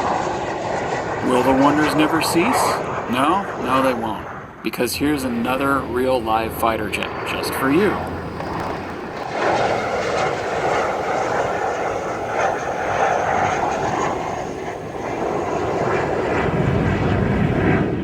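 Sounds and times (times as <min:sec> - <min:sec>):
fighter jet flying past: 0:00.0 - 0:18.0.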